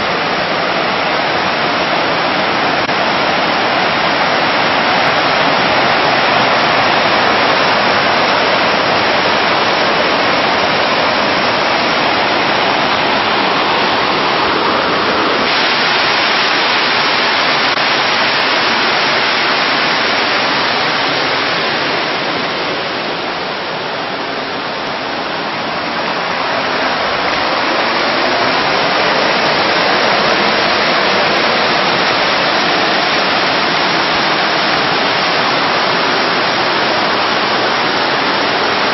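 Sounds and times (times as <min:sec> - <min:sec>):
waterfall pouring into pool: 0:00.0 - 0:38.9.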